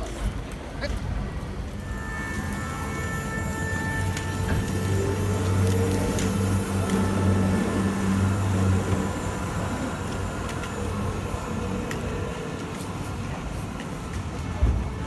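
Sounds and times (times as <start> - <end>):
tram electric hum: 0.0 - 15.0
tram rolling noise: 0.0 - 15.0.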